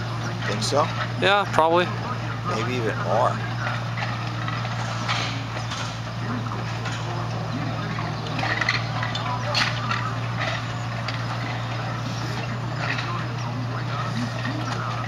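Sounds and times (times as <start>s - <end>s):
faint voices: 0.0s - 15.0s
low machine hum: 0.0s - 15.0s.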